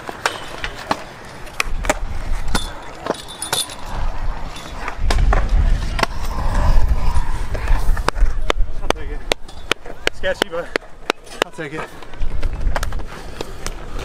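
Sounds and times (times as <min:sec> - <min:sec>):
wheels rolling on concrete: 0:00.0 - 0:14.0.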